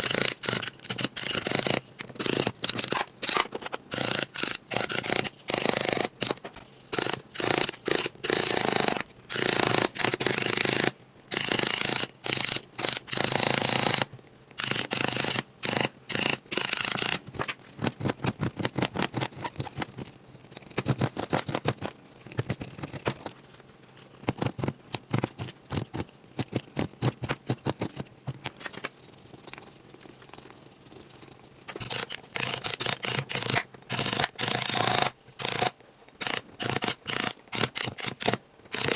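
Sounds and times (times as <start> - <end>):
hand tool scraping plaster: 0.0 - 30.3, 31.6 - 38.9.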